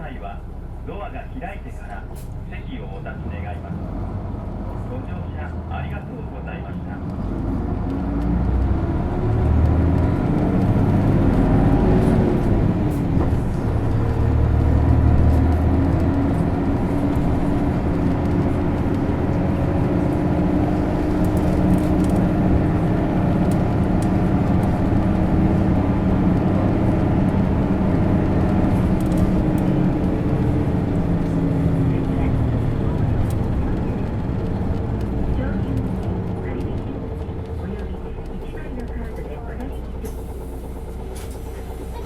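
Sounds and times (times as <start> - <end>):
bus diesel engine drone: 0.0 - 42.0
road and body noise: 0.0 - 42.0.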